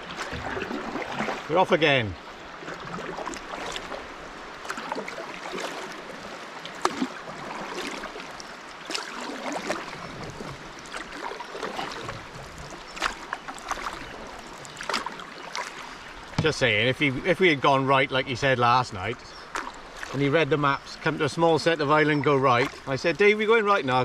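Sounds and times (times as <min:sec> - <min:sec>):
paddles splashing in water: 0:00.0 - 0:24.0
rushing river water: 0:00.0 - 0:24.0.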